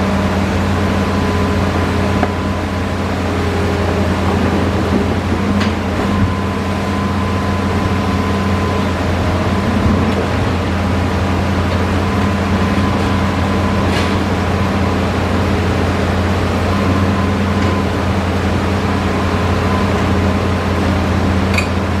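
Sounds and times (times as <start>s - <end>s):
excavator diesel engine drone: 0.0s - 22.0s.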